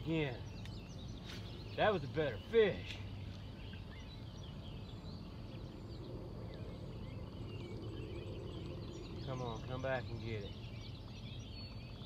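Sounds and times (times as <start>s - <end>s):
low outdoor rumble: 0.0s - 12.0s
wild birds chirping and singing: 0.0s - 12.0s.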